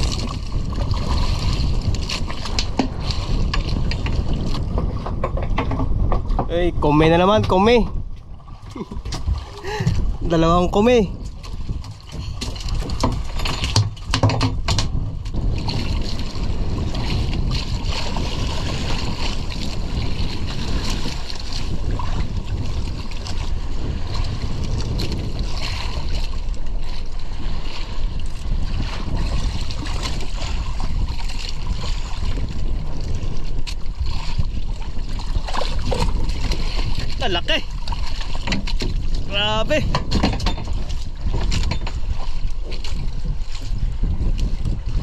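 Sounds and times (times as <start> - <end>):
water washing against boat: 0.0 - 45.0
wind on microphone: 0.0 - 45.0.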